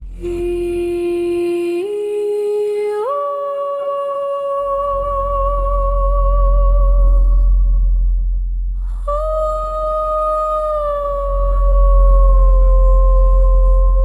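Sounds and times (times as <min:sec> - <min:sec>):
low rumble: 0:00.0 - 0:02.6, 0:04.0 - 0:14.0
person humming: 0:00.0 - 0:07.9, 0:08.8 - 0:14.0.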